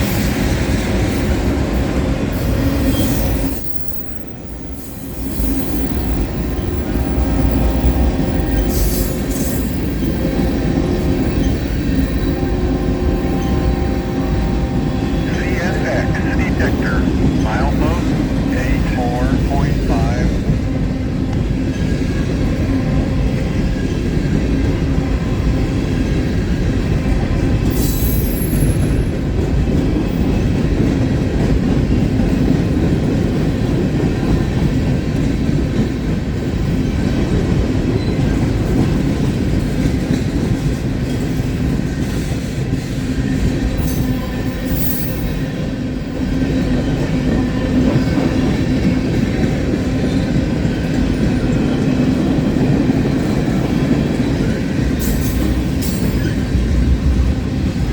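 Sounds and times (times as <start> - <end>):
freight train wheels rumbling on rails: 0.0 - 57.9.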